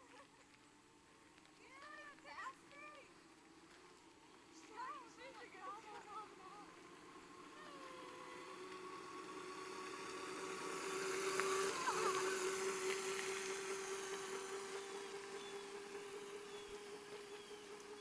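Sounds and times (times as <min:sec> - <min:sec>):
moped engine passing: 0:00.0 - 0:18.0.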